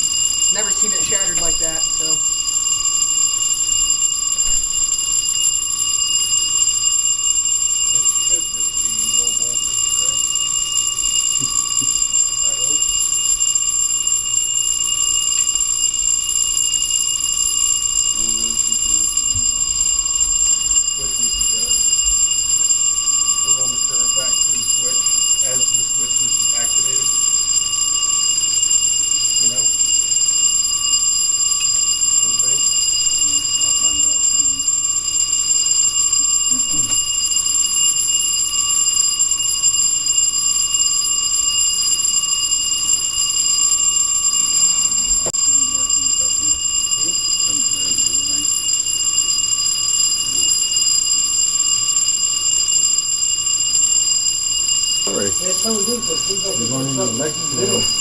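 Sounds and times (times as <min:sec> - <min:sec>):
fire alarm bell ringing: 0:00.0 - 0:58.0.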